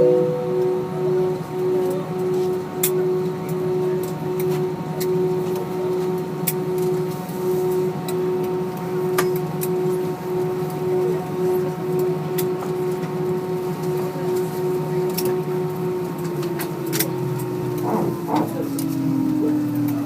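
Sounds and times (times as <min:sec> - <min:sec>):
aircraft cabin systems hum: 0:00.0 - 0:20.0.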